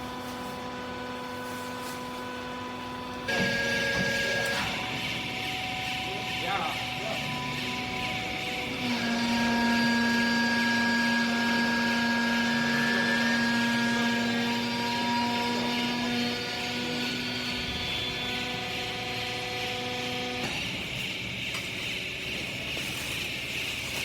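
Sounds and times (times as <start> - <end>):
hydraulic pump motor whine: 0.0 - 24.0.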